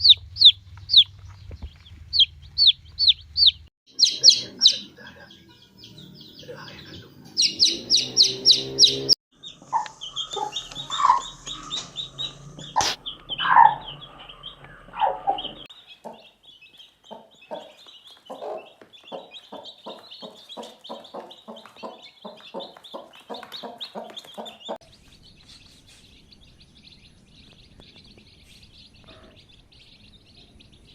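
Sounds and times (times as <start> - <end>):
chicken clucking: 0.0 - 24.8
faint high chirping: 0.0 - 30.9.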